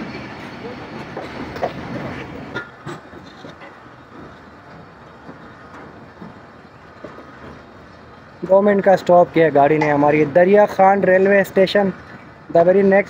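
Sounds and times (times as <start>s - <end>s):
train clanks: 0.0s - 13.0s
train rumbling: 0.0s - 13.0s.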